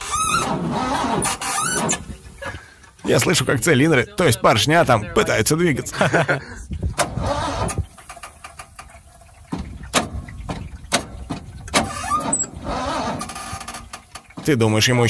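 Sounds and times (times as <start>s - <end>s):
engine cranking with knocks: 0.0s - 4.0s, 6.8s - 15.0s.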